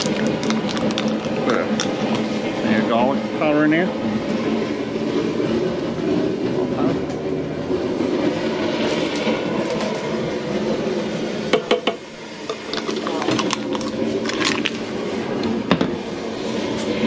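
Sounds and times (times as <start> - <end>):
gas burner rushing: 0.0 - 17.0.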